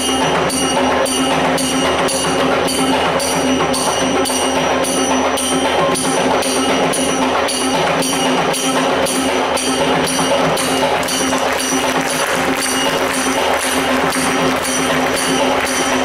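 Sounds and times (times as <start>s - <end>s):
bright high percussion: 0.0s - 16.0s.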